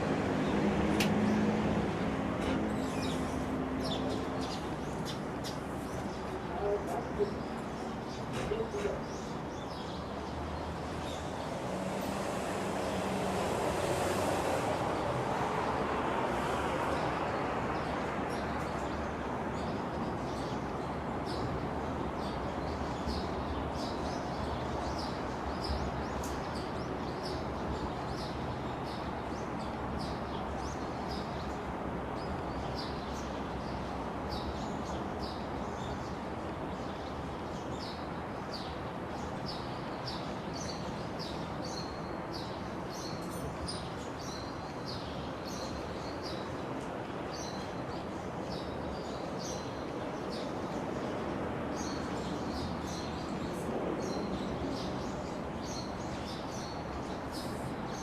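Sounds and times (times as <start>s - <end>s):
small birds chirping: 0.0s - 14.7s, 16.3s - 58.0s
steady background noise: 0.0s - 58.0s.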